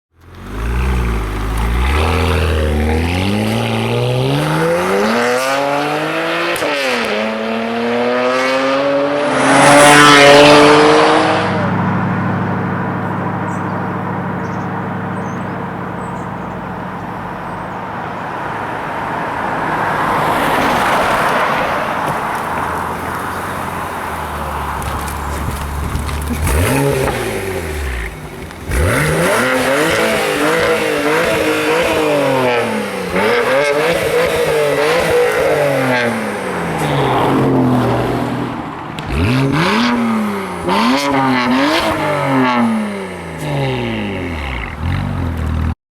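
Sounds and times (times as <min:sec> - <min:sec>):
car engine accelerating hard: 0:00.2 - 0:45.8.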